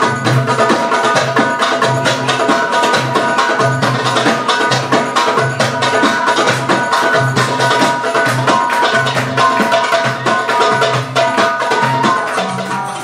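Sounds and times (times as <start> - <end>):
hand drum percussion: 0.0 - 13.0.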